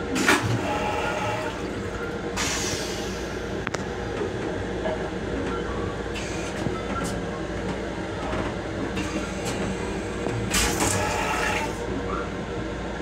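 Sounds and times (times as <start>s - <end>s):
train car rumbling: 0.0s - 13.0s.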